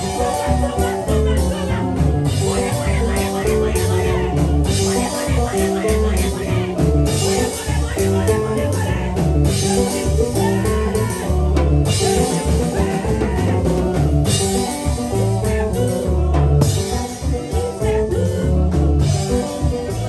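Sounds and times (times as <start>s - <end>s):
bass line: 0.0s - 20.0s
worship band music: 0.0s - 20.0s.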